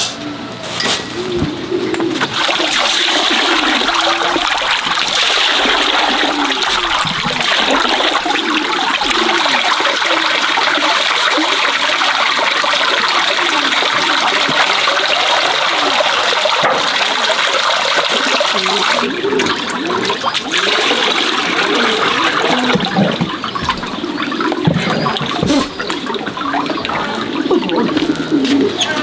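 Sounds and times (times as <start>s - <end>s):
running water splashing: 1.5s - 29.0s.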